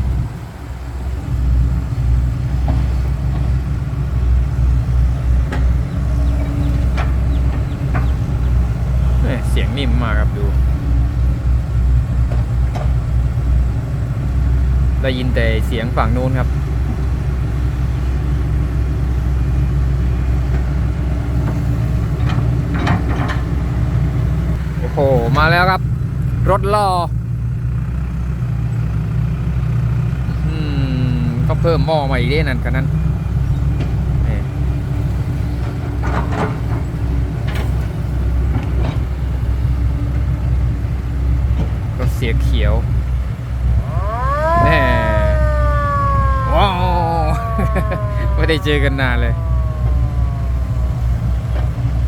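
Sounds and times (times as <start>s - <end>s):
diesel truck engine rumbling: 0.0s - 52.0s.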